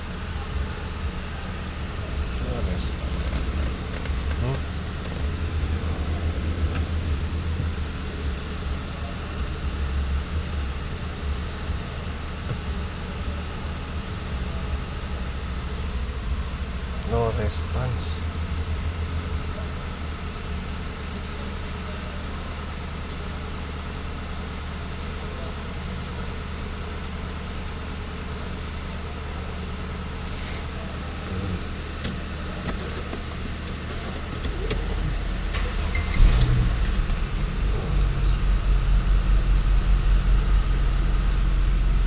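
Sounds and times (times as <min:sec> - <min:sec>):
car engine humming: 0:00.0 - 0:22.7, 0:28.3 - 0:42.0
deep pulsing engine: 0:00.0 - 0:42.0.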